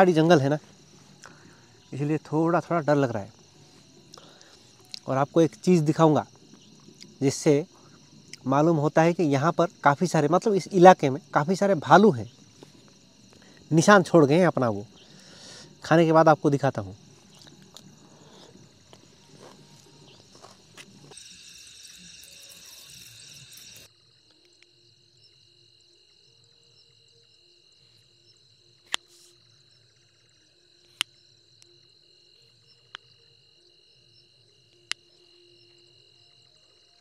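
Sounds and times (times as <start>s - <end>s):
faint steady high trill: 0.0s - 30.7s
crickets chirring: 0.0s - 37.0s.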